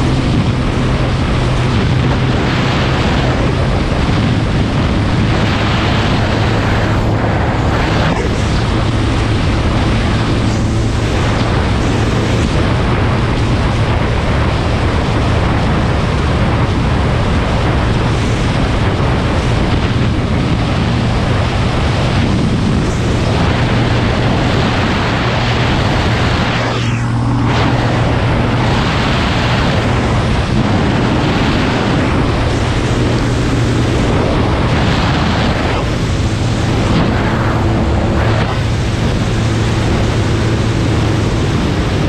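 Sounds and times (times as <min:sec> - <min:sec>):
quad engine running: 0:00.0 - 0:42.0
wind on microphone: 0:00.0 - 0:42.0.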